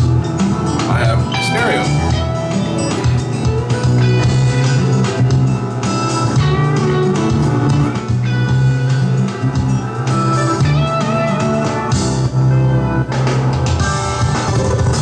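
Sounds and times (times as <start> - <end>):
guitar music from car radio: 0.0 - 15.0.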